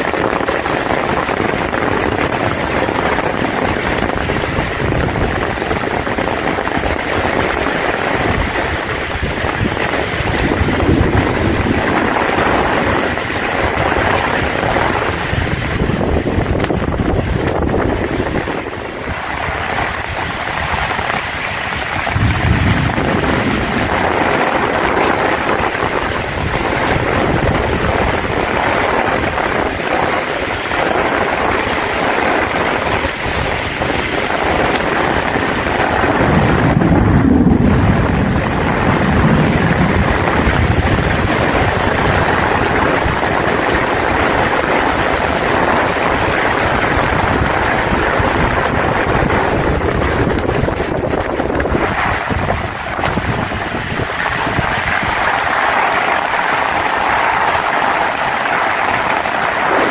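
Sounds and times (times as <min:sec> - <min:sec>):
heavy rain falling: 0:00.0 - 0:59.9
wind buffeting microphone: 0:00.0 - 0:59.9.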